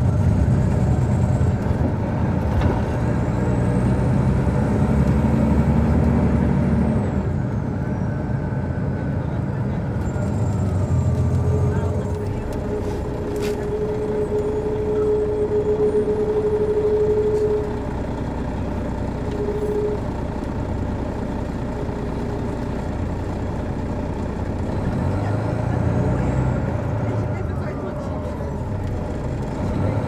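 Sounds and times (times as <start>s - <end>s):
diesel coach engine running: 0.0s - 30.0s
road noise: 0.0s - 30.0s.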